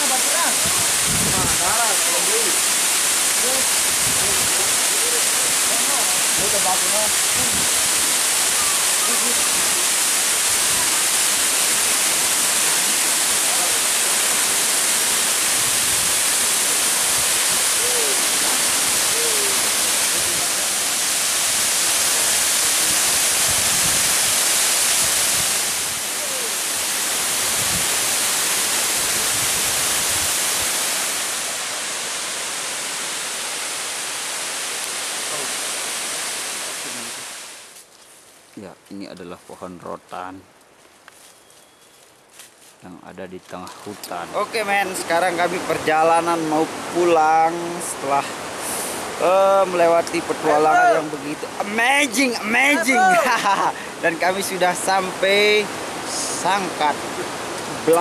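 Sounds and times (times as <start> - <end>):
water rushing: 0.0 - 37.8, 43.1 - 58.0.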